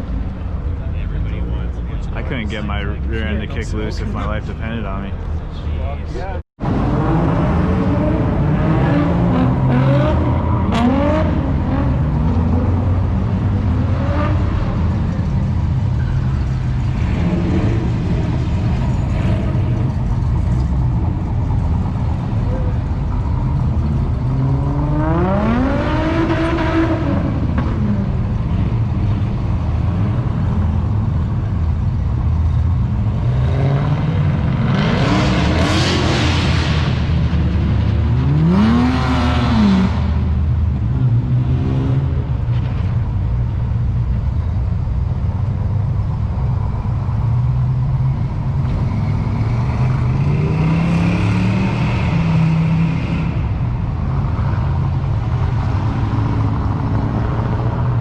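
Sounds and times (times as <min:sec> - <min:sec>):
road noise: 0:00.0 - 0:58.0
car engine revving: 0:06.6 - 0:42.8, 0:46.4 - 0:58.0.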